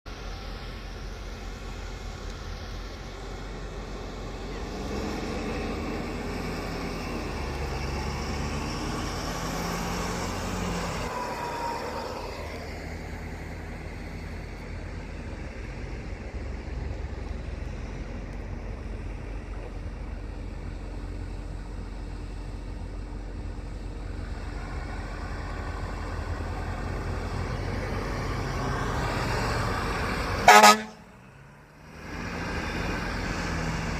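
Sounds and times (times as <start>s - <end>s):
emergency vehicles driving by: 0.1s - 33.9s.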